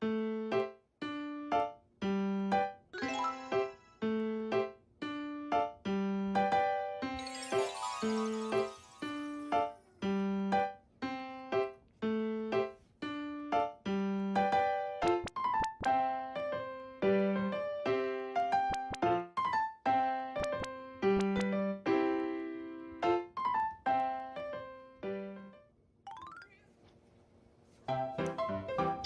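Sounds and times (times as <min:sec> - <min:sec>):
bouncy keyboard tune: 0:00.0 - 0:25.5, 0:26.1 - 0:26.6, 0:27.9 - 0:29.0.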